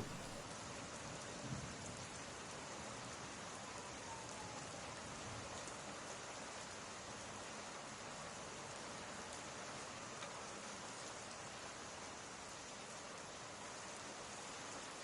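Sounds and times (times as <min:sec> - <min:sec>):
rain hiss: 0:00.0 - 0:03.8, 0:05.0 - 0:15.0.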